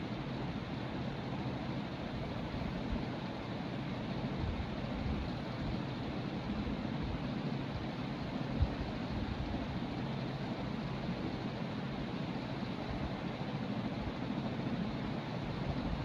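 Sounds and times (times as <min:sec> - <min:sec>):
ceiling fan running: 0:00.0 - 0:16.0.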